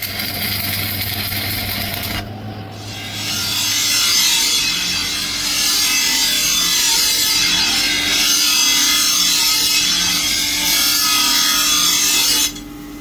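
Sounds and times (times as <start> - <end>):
power tool grinding steel: 0.1 - 12.7.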